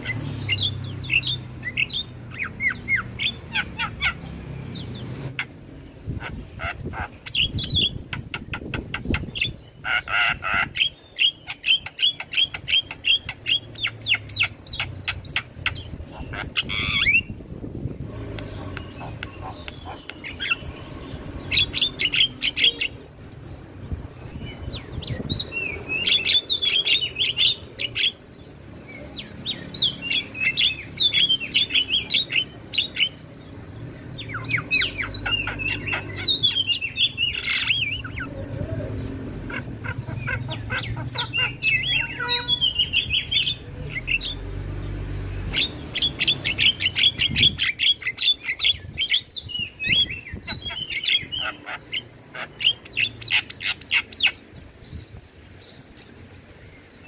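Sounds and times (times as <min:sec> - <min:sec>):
bird singing chattering notes: 0:00.0 - 0:57.0.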